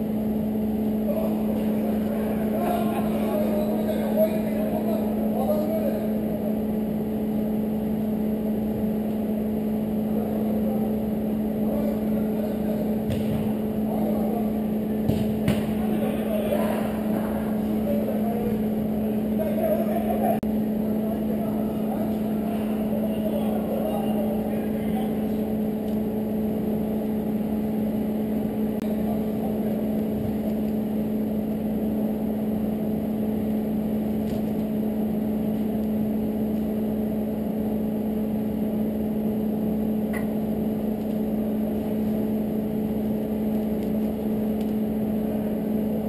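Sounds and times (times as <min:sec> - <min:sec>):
steady machine hum: 0:00.0 - 0:46.0.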